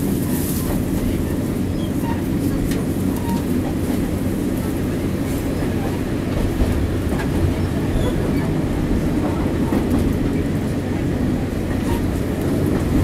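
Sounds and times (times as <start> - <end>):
diesel engine rumble: 0.0 - 13.0
train wheels on rails: 0.0 - 13.0.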